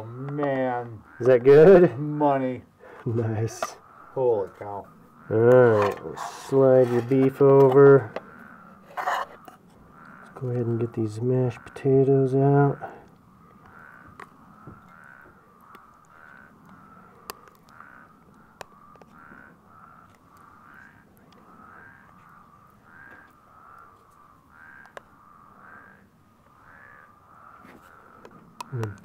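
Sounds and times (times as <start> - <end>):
faint animal call: 0.0 - 29.0.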